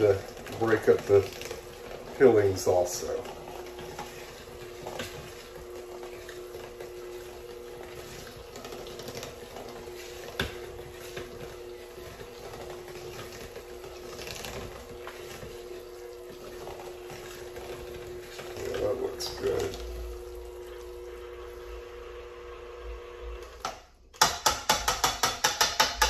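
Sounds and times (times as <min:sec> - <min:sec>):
mashed food squishing in a bowl: 0:00.0 - 0:22.2.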